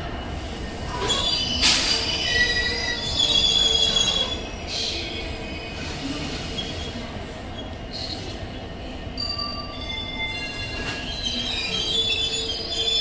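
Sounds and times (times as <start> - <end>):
train wheels squealing on rails: 0.1 - 13.0.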